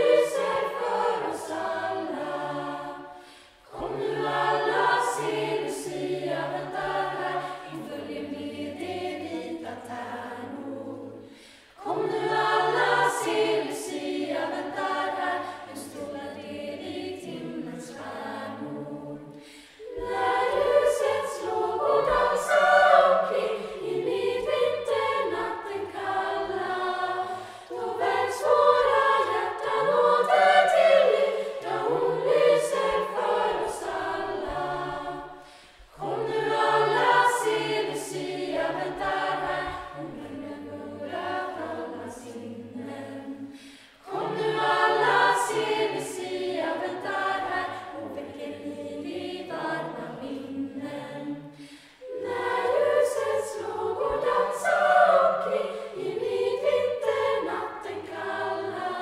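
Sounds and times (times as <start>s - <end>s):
choir singing in unison: 0.0s - 59.0s.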